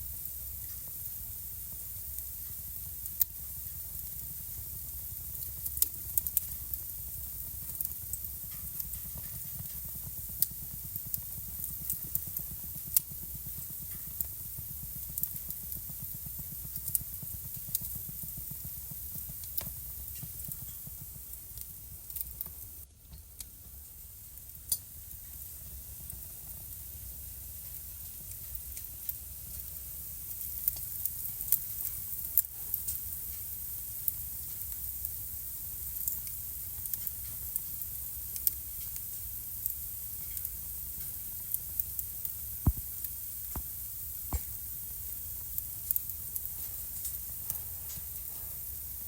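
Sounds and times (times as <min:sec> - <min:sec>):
fire crackling and popping: 0:00.0 - 0:49.0
fire rumbling and hissing: 0:00.0 - 0:49.0.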